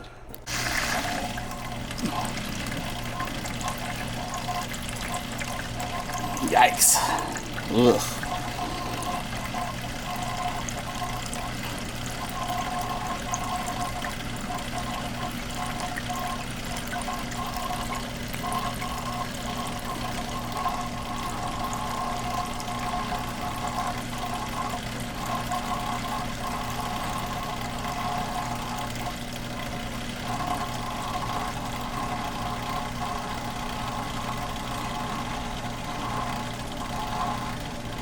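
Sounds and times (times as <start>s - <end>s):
dishwasher running: 0.0s - 38.0s.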